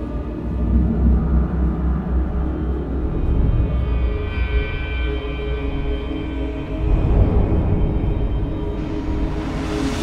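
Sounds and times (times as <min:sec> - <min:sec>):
droning background music: 0:00.0 - 0:10.0.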